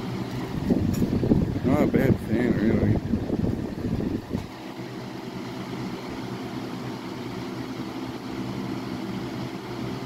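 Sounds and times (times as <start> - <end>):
box fan running: 0.0 - 10.0.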